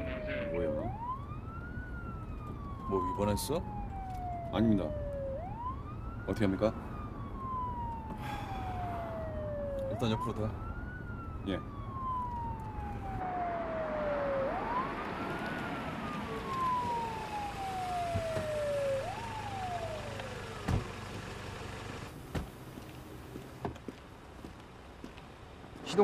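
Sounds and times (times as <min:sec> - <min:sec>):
police siren wailing: 0:00.0 - 0:22.2
road and engine noise: 0:00.0 - 0:26.0.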